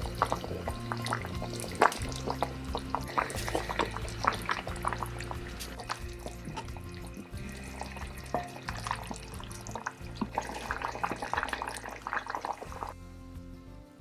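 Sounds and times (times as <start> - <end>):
liquid bubbling and splashing in pot: 0.0 - 13.0
background music: 0.0 - 14.0.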